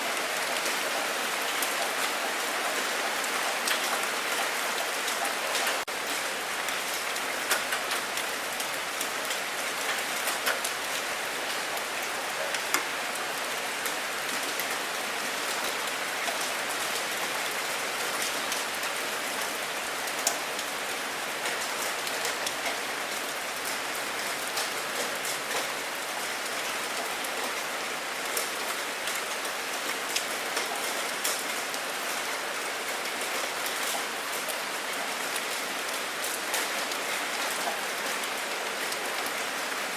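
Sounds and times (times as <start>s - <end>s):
steady rain hiss: 0.0s - 39.9s
raindrops ticking on hard surface: 3.6s - 27.6s, 28.2s - 39.7s.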